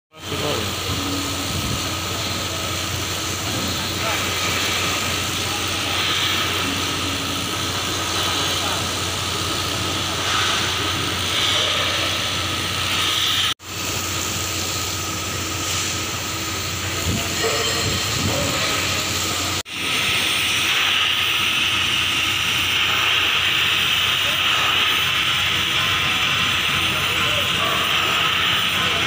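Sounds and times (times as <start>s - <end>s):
welding torch flame hissing: 0.2s - 29.0s.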